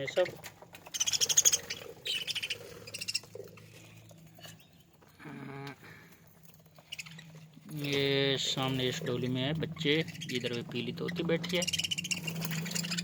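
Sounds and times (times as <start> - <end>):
budgerigars chirping: 0.0 - 4.9, 6.7 - 13.0.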